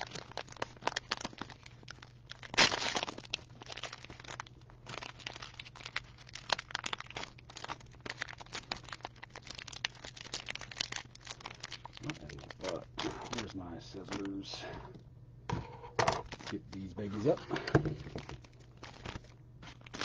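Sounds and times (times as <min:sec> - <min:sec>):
plastic wrapper ripping: 0:00.0 - 0:14.4, 0:16.2 - 0:17.4, 0:18.0 - 0:20.0
plastic wrapper crinkling: 0:00.0 - 0:14.5, 0:16.1 - 0:20.0.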